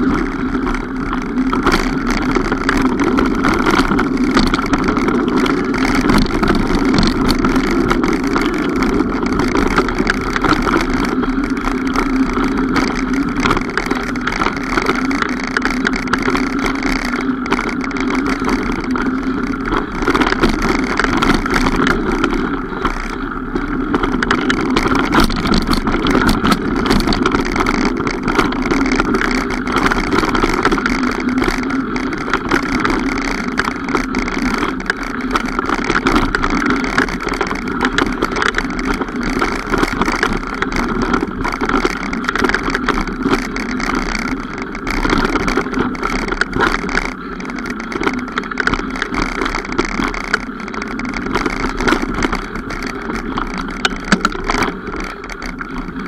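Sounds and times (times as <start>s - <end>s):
mountain bike rushing and rattling: 0.0s - 56.0s.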